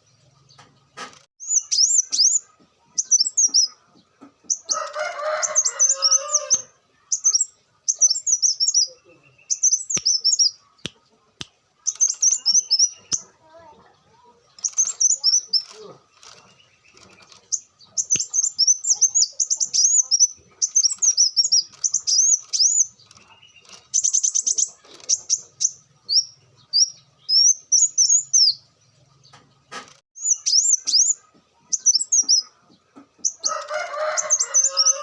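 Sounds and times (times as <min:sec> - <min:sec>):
sunbird singing: 0:01.4 - 0:11.0, 0:11.8 - 0:35.0.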